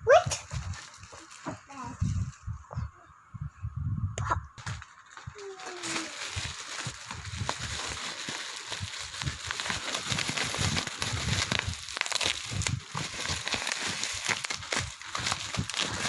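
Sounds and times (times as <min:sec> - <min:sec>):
crinkling and rustling: 0:00.2 - 0:02.5, 0:04.6 - 0:16.0.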